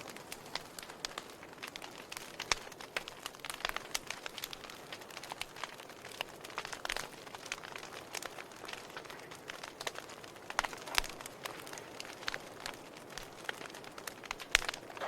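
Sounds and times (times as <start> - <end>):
fire soft hiss: 0.0 - 15.0
wood fire crackling and popping: 0.0 - 15.0.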